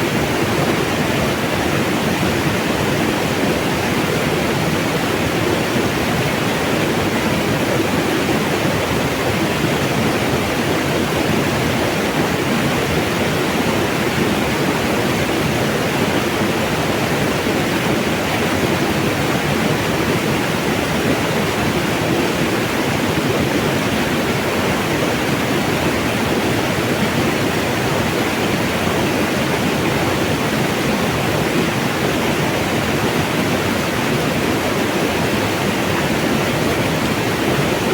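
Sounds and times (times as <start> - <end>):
water rushing: 0.0 - 37.9.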